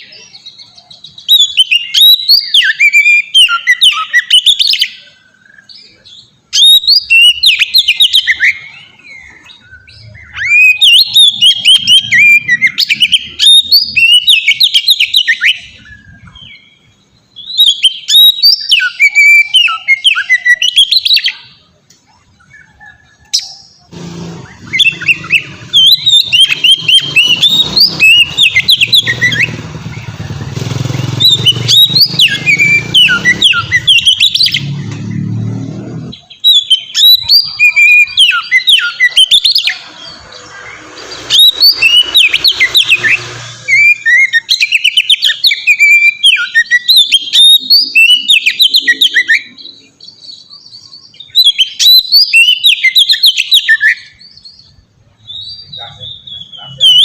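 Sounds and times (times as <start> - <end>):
bird singing whistles and chirps: 0.0 - 57.0.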